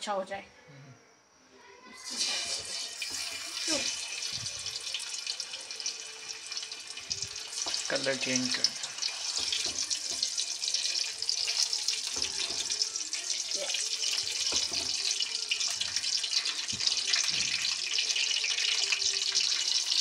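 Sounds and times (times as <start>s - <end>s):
chicken frying in oil: 2.0s - 20.0s.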